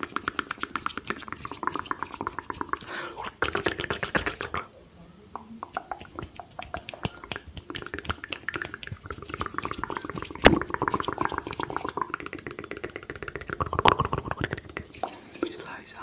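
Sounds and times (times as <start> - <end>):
wet mouth clicks and pops: 0.0 - 4.7, 5.4 - 15.5.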